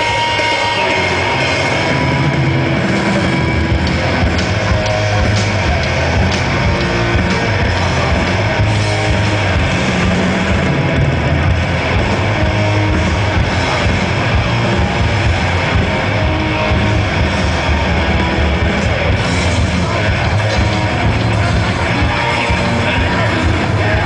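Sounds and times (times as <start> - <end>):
distorted electric guitar: 0.0 - 24.0
heavy metal band playing live: 0.0 - 24.0.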